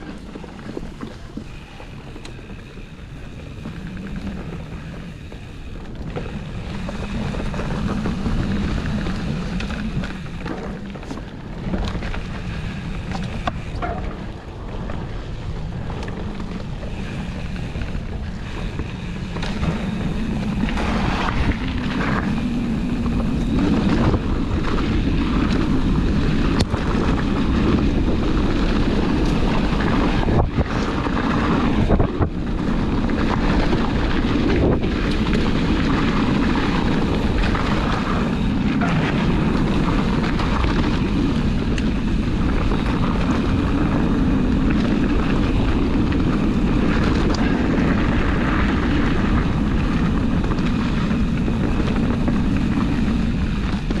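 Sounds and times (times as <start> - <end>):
bike rumbling on dirt trail: 0.0 - 54.0
wind on microphone: 0.0 - 54.0.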